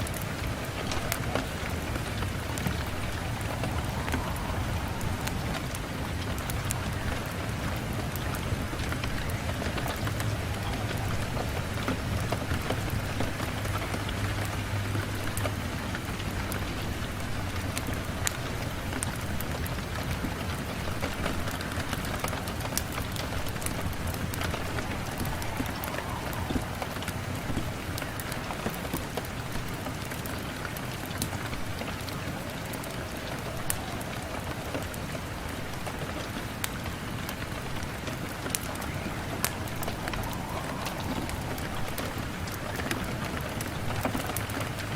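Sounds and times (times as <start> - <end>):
rain on a window: 0.0 - 44.9.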